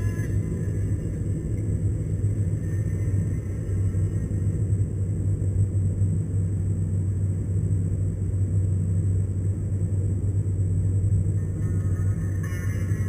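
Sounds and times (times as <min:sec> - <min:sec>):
car cabin highway drone: 0:00.0 - 0:13.0.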